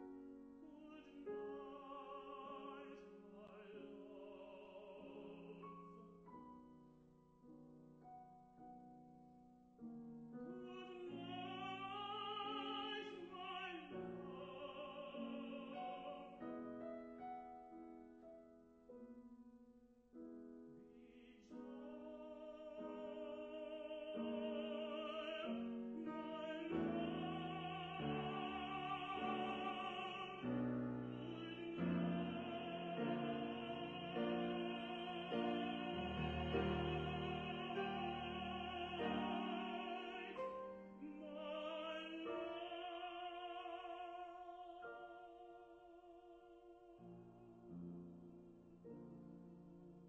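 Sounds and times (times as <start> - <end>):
classical singer with vibrato: 0.0 - 6.2, 10.4 - 17.8, 21.0 - 50.0
piano accompaniment: 0.0 - 50.0.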